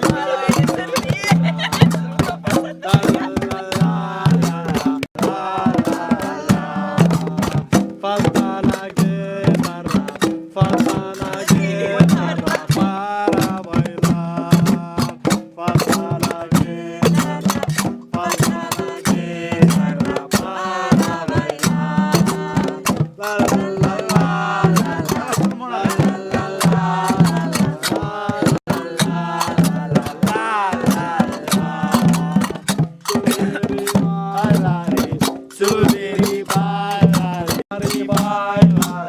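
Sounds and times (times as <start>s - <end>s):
hand drums and percussion: 0.0s - 39.0s
voices singing: 0.0s - 39.0s.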